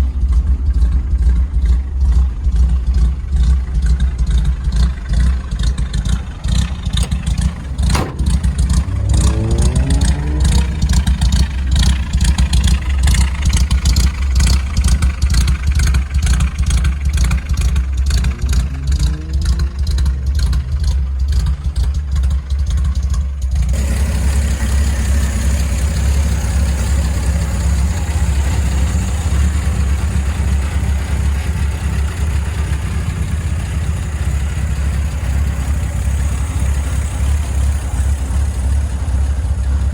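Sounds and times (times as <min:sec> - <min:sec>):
pickup truck engine idling and revving: 0:00.0 - 0:39.9.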